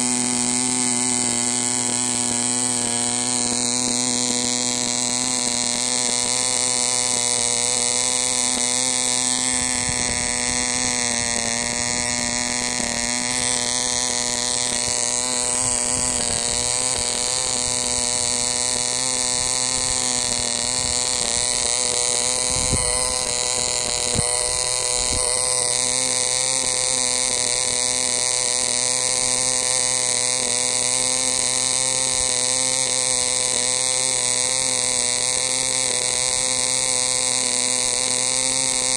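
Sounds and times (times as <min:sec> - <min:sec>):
model engine high-pitched buzz: 0:00.0 - 0:38.9.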